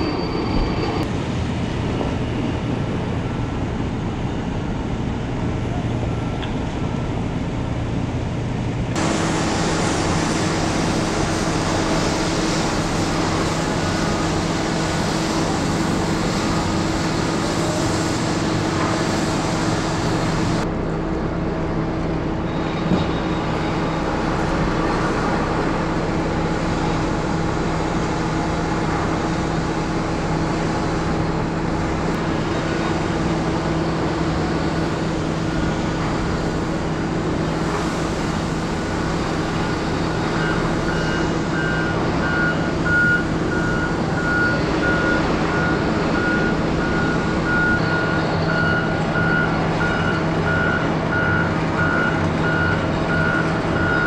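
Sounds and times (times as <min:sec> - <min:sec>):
heavy machinery diesel drone: 0:00.0 - 0:54.0.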